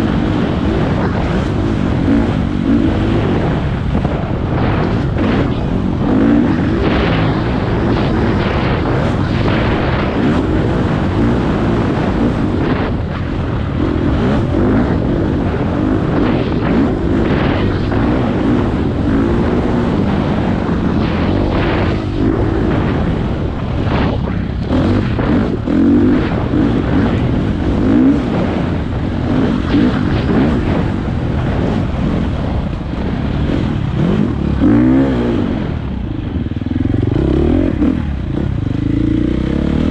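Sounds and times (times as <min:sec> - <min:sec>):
dirt bike engine revving: 0:00.0 - 0:39.9
wind on microphone: 0:00.0 - 0:39.9.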